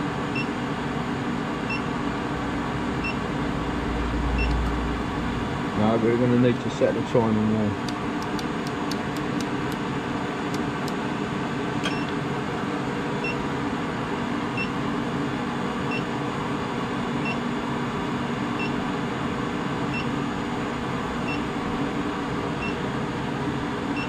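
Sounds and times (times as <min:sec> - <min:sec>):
fan noise: 0:00.0 - 0:24.0
induction forge electrical hum: 0:00.0 - 0:24.0.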